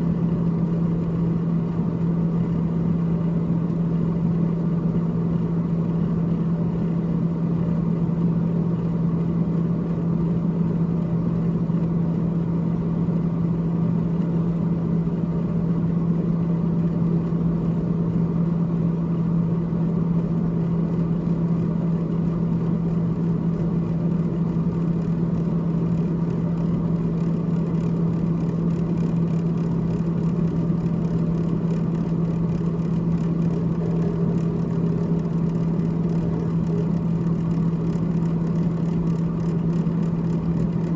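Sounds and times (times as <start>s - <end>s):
refrigerator fan whirring: 0.0s - 40.9s.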